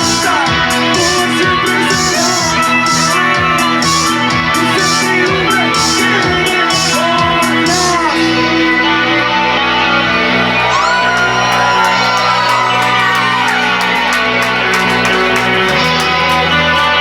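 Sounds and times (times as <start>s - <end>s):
drum kit: 0.0s - 8.1s, 10.7s - 17.0s
bass: 0.0s - 17.0s
guitar: 0.0s - 17.0s.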